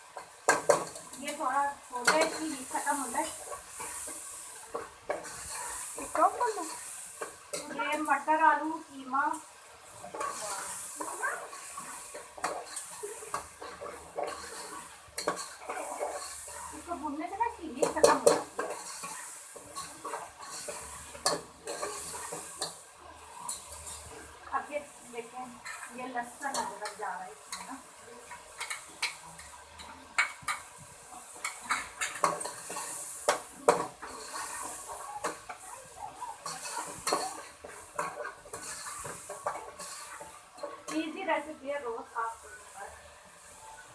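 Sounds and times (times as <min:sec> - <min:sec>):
meat frying in a pan: 0:00.0 - 0:43.9
metal spatula scraping a pan: 0:00.1 - 0:43.0.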